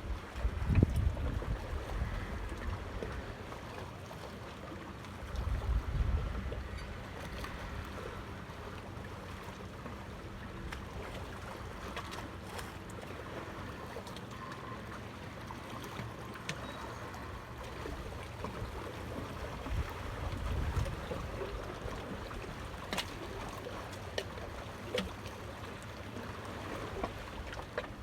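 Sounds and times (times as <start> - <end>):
water moving: 0.0 - 28.0.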